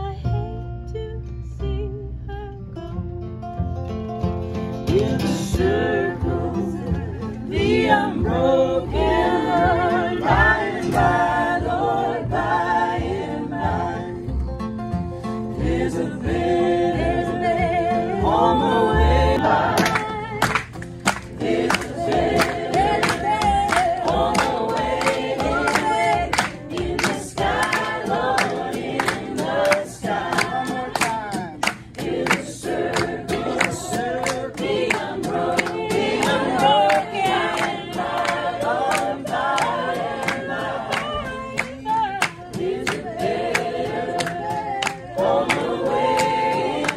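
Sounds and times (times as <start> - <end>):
acoustic guitar: 0.0 - 46.9
upright bass: 0.0 - 46.9
group singing in harmony: 4.8 - 46.9
rhythmic hand claps: 4.9 - 14.0, 15.7 - 46.9.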